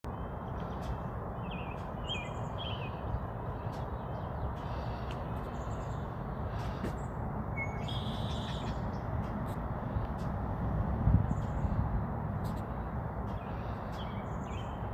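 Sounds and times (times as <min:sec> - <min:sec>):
birds chirping: 0:00.1 - 0:10.4, 0:11.2 - 0:14.9.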